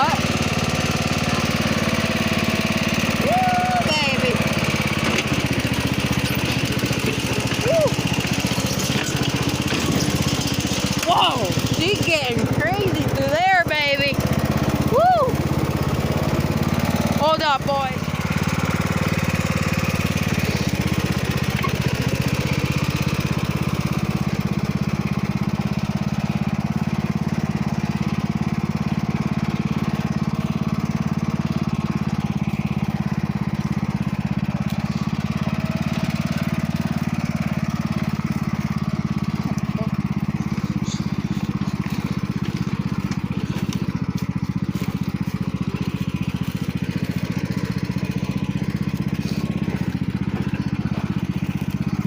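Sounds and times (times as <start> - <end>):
lawn tractor engine running: 0.0 - 52.0.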